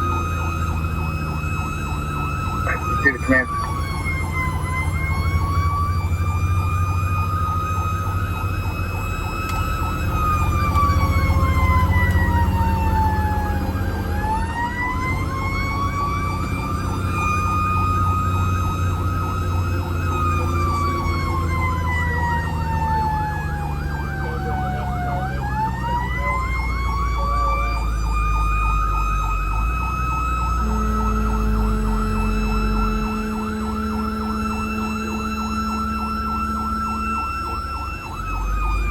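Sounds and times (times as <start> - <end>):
fire engine siren wailing: 0.0 - 38.9
truck engine running: 0.0 - 38.9.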